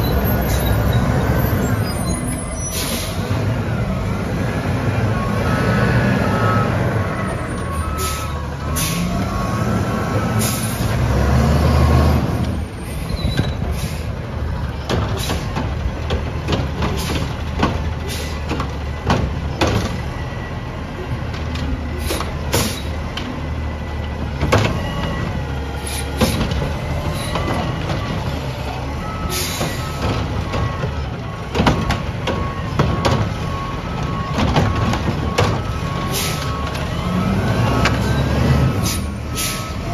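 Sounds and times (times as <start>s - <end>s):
garbage truck diesel engine: 0.0s - 39.9s.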